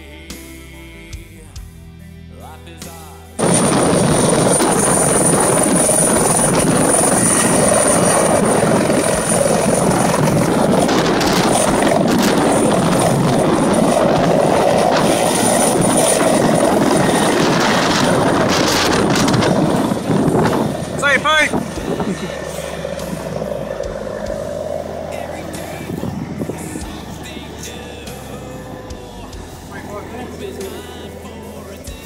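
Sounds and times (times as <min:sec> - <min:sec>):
helicopter rotor wash: 0:03.4 - 0:32.0
high turbine whine: 0:03.4 - 0:32.0.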